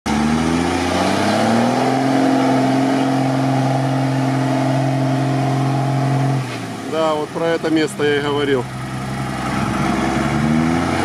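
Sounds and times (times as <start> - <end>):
truck wading through muddy water: 0.1 - 11.0.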